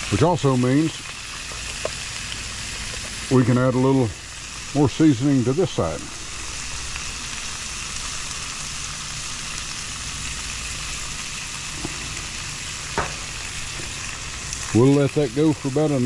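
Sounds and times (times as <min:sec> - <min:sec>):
food sizzling on a griddle: 0:00.0 - 0:16.0
low steady hum: 0:00.0 - 0:16.0.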